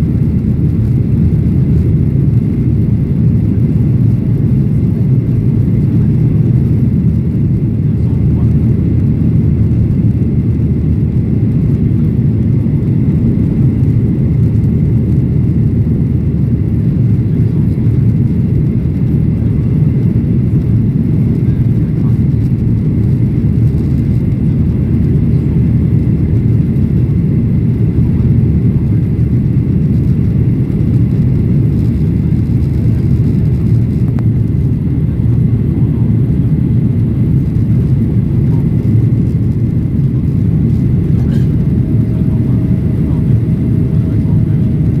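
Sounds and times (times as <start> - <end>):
airplane cabin engine drone: 0.0 - 45.0.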